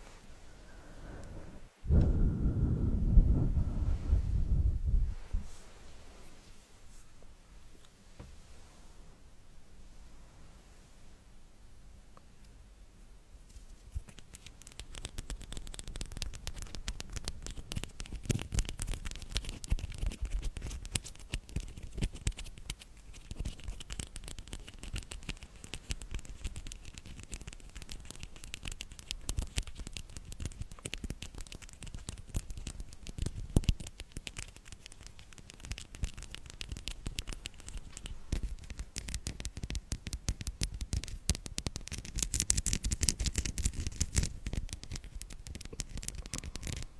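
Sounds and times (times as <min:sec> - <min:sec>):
small scratches and crackles: 0:03.1 - 0:09.1, 0:13.4 - 0:46.9.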